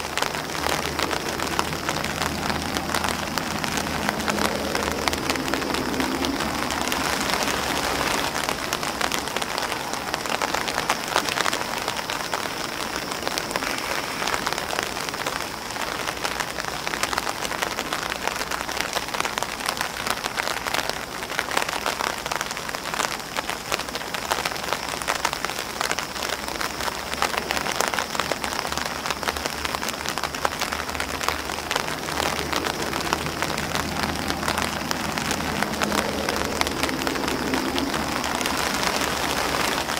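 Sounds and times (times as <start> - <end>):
rain on umbrella and grass: 0.0 - 39.9.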